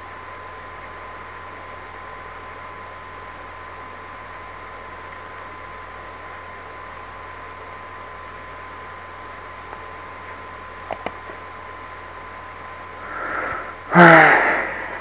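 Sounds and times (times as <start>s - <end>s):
faint steady whine: 0.0s - 15.0s
microphone hiss: 0.0s - 15.0s.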